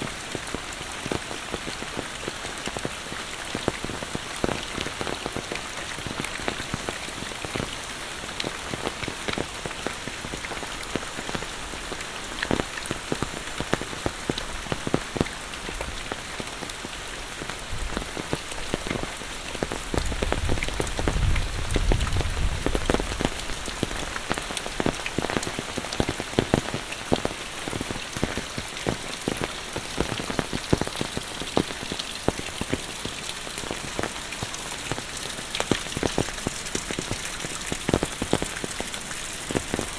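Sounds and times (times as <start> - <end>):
heavy rain falling: 0.0 - 39.9
sharp raindrop ticks: 0.4 - 39.9.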